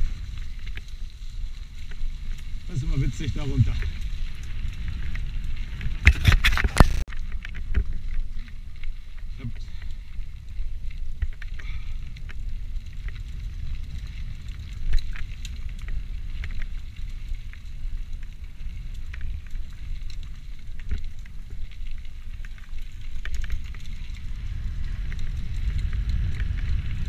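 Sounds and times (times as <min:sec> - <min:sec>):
bike rattling with clicks: 0:00.0 - 0:27.0
tyres crackling over soil and stones: 0:00.0 - 0:27.0
wind rumble on microphone: 0:00.0 - 0:27.0.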